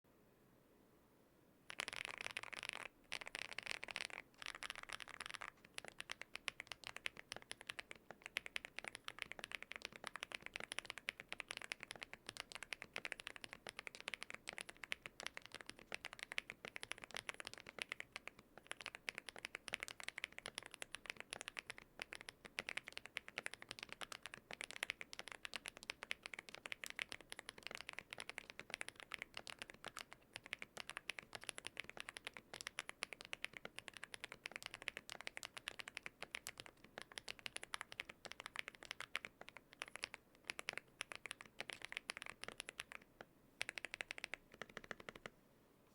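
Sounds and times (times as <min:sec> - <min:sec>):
mechanical keyboard typing: 0:01.7 - 0:45.3.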